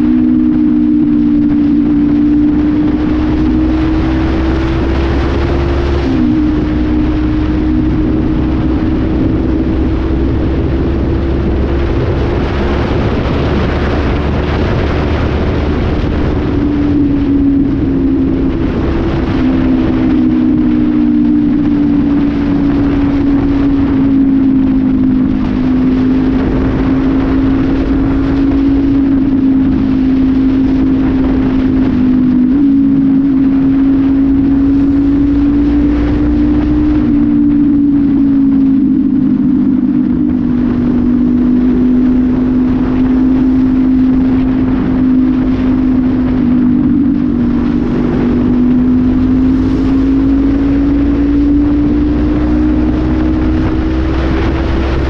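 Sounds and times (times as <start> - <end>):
motorcycle engine drone: 0.0 - 55.0
wind and road noise: 0.0 - 55.0.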